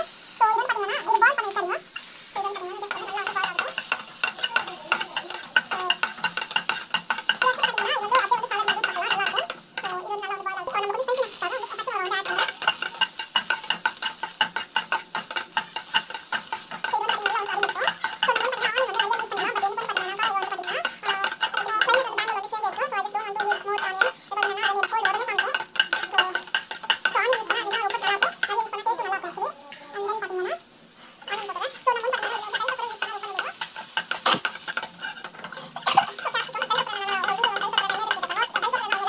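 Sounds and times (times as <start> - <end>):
vegetables sizzling in oil: 0.0 - 39.0
spatula scraping a pan: 0.6 - 10.0, 10.7 - 39.0.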